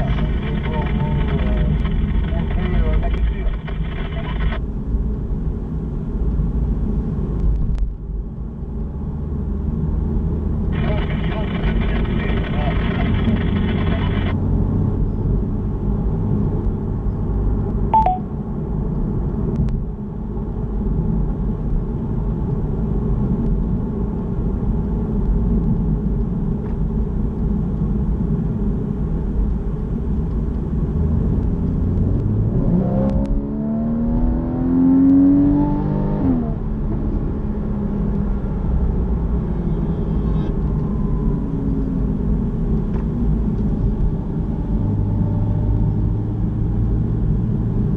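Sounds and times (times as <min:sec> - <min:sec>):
car engine and tyre rumble: 0:00.0 - 0:47.9.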